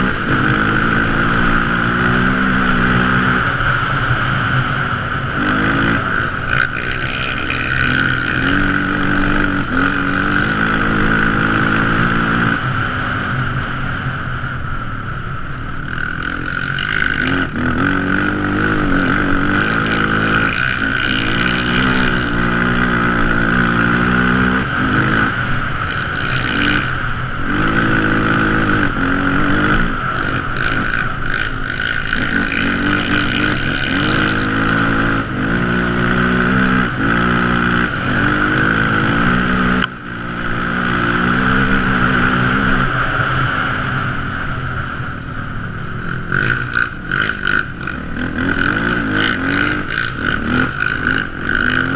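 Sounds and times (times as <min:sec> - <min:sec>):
quad bike engine revving: 0:00.0 - 0:51.9
steady high whine: 0:00.0 - 0:51.9.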